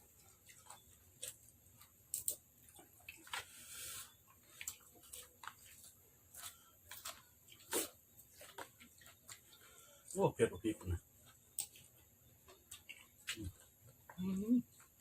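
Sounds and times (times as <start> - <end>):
wet chewing: 0.0 - 10.2, 10.8 - 15.0.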